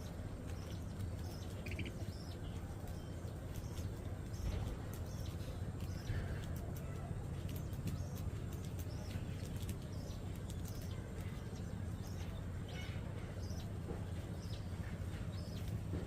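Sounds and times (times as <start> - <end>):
budgerigars chirping: 0.0 - 6.3, 7.9 - 15.8.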